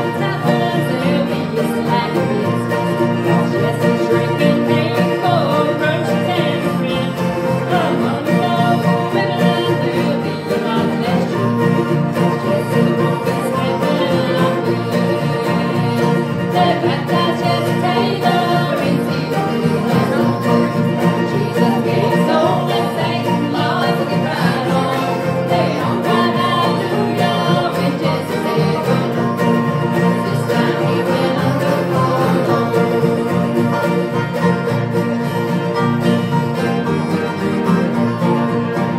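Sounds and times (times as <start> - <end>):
voices singing along: 0.0 - 34.4
banjo: 0.0 - 38.9
mandolin: 0.0 - 38.9
strummed acoustic guitars: 0.0 - 38.9.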